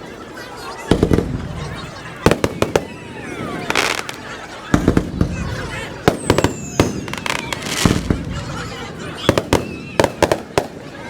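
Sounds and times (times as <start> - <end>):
fireworks bangs and cracks: 0.9 - 11.0.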